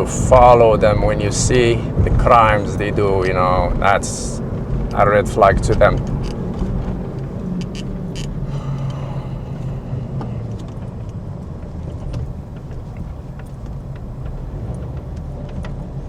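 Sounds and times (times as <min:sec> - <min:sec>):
low hum: 0:00.0 - 0:15.4
low rumble: 0:00.0 - 0:15.5.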